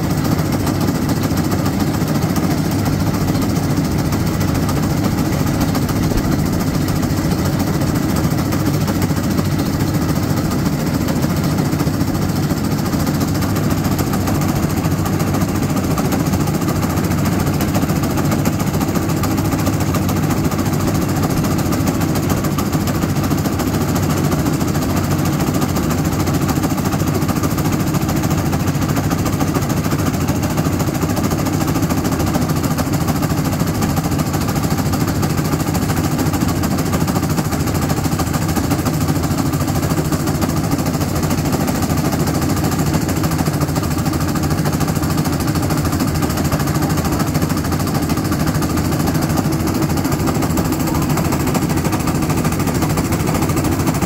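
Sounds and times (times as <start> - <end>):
small engine chugging: 0.0 - 54.0.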